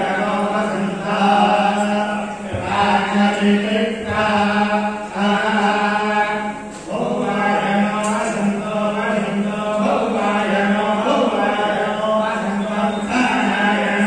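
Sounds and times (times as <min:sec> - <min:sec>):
voices chanting a mantra: 0:00.0 - 0:14.0.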